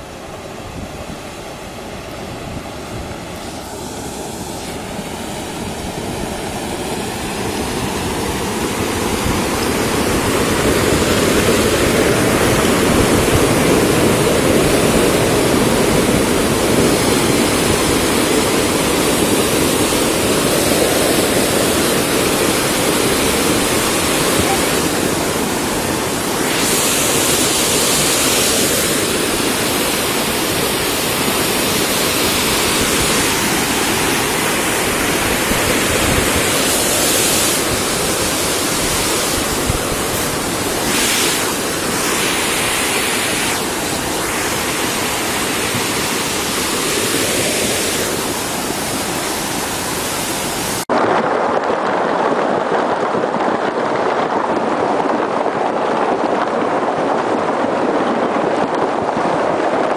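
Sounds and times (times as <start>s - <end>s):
rushing churning river water: 0.0s - 59.9s.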